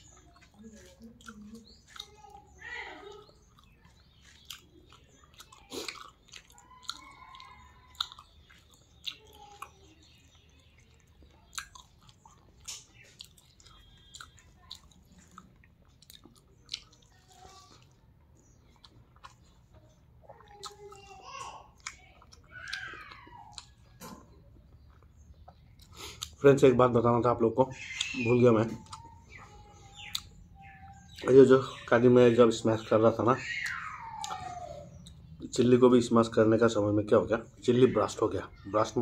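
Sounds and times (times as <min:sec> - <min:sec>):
person chewing: 0:00.0 - 0:26.4, 0:27.9 - 0:31.3, 0:33.6 - 0:35.4.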